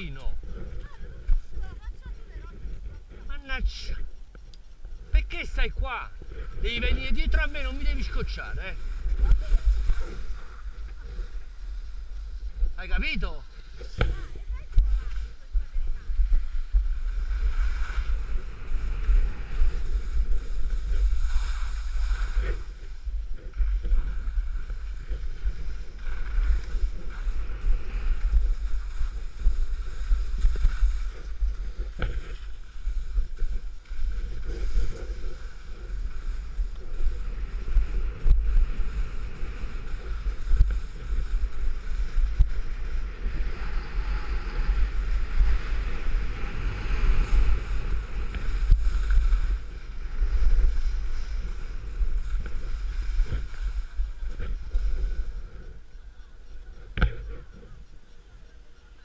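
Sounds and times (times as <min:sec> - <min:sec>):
skis sliding on snow: 0:00.0 - 0:58.2
wind buffeting microphone: 0:00.0 - 0:58.8.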